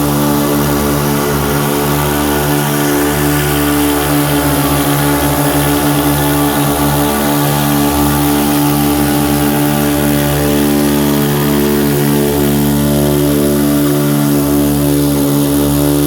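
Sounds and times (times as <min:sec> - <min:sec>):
model airplane engines running: 0:00.0 - 0:16.0.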